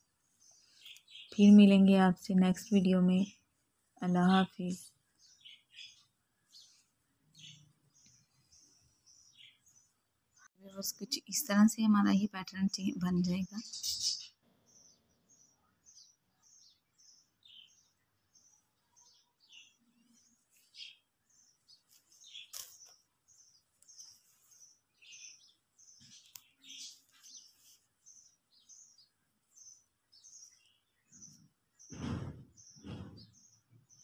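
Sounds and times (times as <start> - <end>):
faint bird chirping: 0.0 - 34.0.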